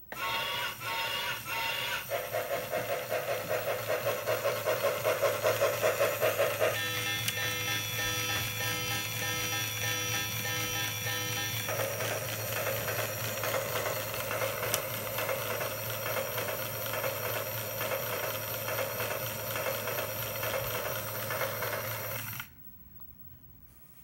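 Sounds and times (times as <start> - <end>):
toy motor mechanical noise: 0.1 - 22.4
train sound effects: 0.8 - 20.1.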